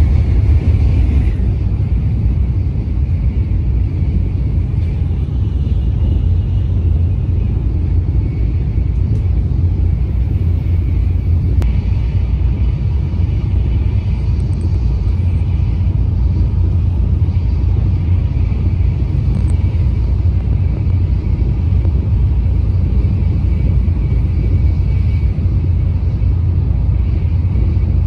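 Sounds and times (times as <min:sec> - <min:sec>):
train cabin rumble: 0:00.0 - 0:28.0.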